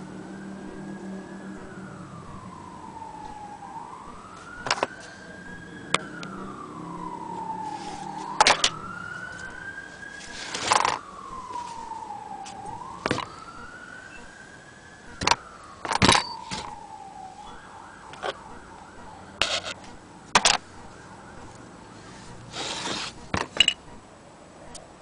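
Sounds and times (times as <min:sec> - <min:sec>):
siren wailing: 0:00.0 - 0:24.1.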